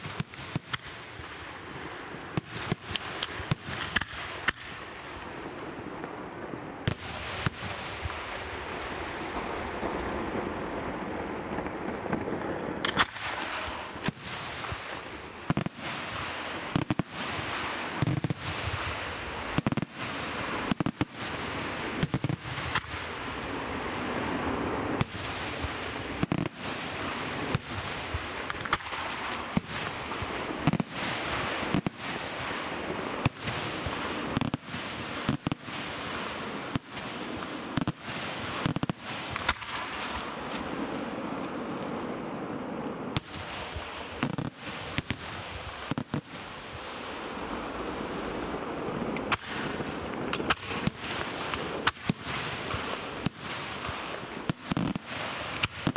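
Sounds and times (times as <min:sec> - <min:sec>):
fireworks crackling: 0:00.0 - 0:55.9.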